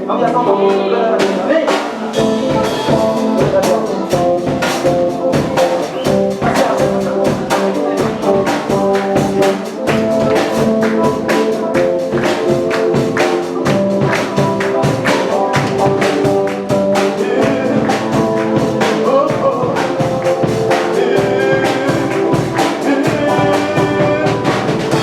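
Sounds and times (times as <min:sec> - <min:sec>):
upbeat dance band music: 0:00.0 - 0:25.0.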